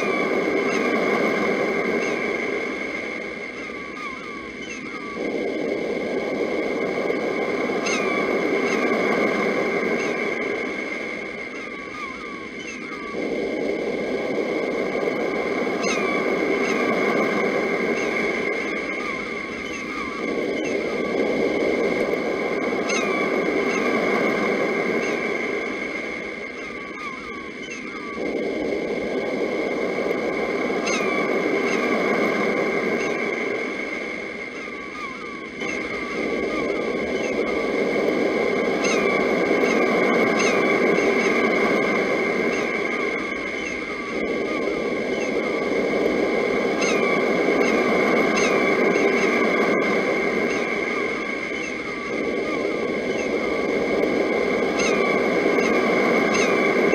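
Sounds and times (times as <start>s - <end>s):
sea waves washing in: 0.0s - 12.1s, 13.2s - 56.9s
birds chirping: 0.0s - 56.9s.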